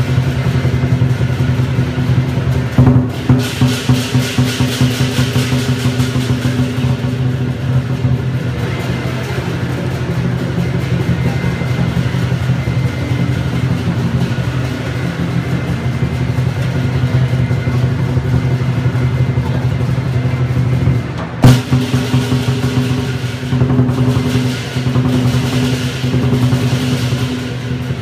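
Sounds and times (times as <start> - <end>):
cymbals and gong: 0.0 - 28.0
large drum rolling: 0.0 - 28.0.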